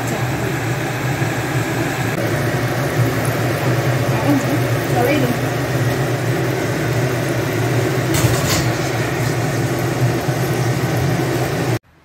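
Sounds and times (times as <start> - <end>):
egg sizzling in a wok: 0.0 - 11.8.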